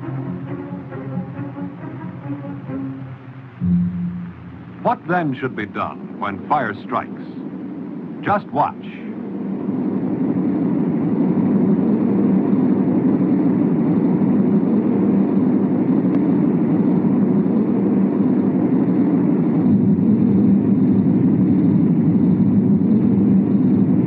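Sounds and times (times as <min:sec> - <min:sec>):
diesel locomotive rumble: 0:00.0 - 0:24.0.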